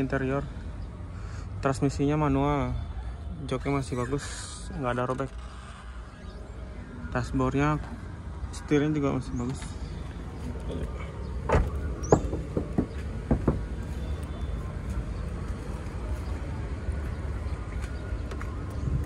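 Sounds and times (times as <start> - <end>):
low rumble of vehicles: 0.0 - 19.0.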